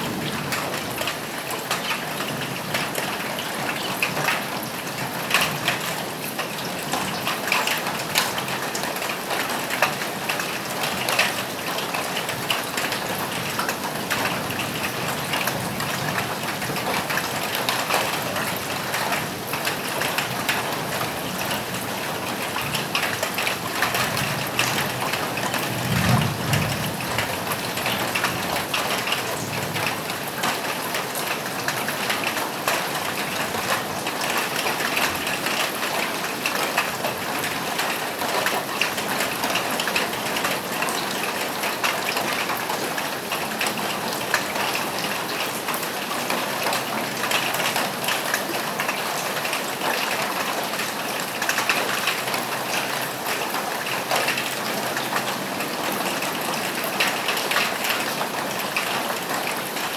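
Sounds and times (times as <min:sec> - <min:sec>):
rain falling on a roof: 0:00.0 - 0:59.9.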